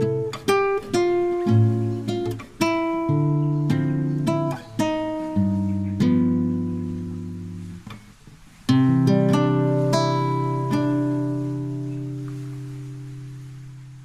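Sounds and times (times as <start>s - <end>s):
acoustic guitar plucked notes: 0.0s - 14.0s.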